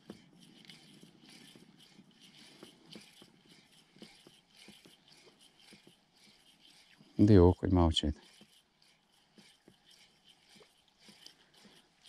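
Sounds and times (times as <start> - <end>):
fishing reel clicks and rustles: 0.0 - 12.0.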